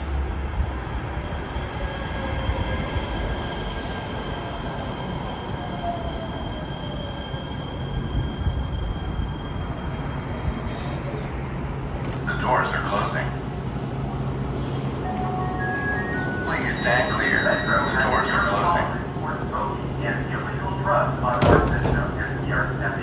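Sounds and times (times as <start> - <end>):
train rolling rumble: 0.0 - 23.0.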